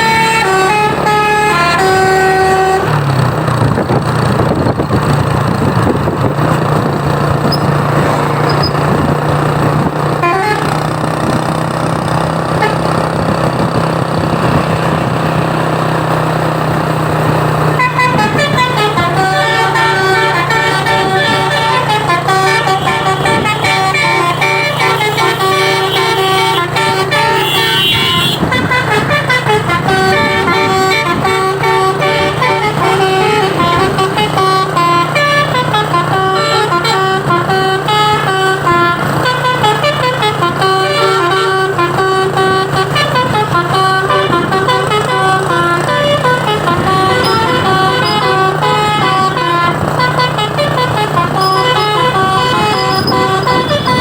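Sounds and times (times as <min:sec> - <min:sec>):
musical truck horn melody: 0:00.0 - 0:03.4, 0:05.6 - 0:54.0.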